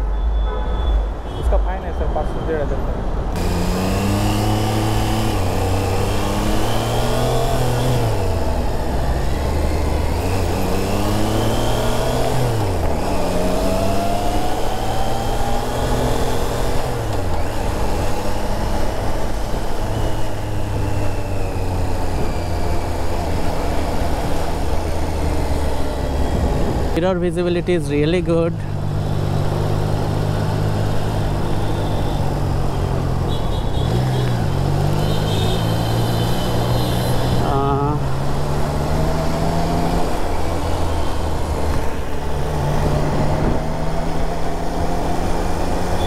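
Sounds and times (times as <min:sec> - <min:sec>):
motorcycle engine accelerating: 0:03.4 - 0:27.0, 0:28.7 - 0:46.0.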